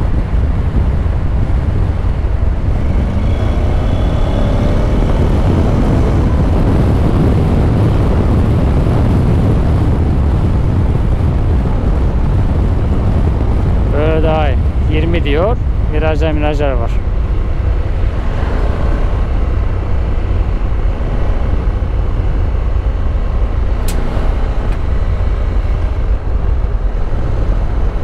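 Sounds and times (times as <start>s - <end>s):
wind rushing on microphone: 0.0s - 28.0s.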